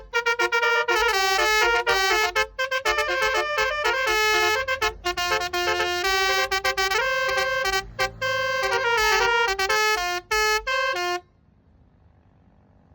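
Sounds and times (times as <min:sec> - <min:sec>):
musical horn playing a tune: 0:00.0 - 0:11.2.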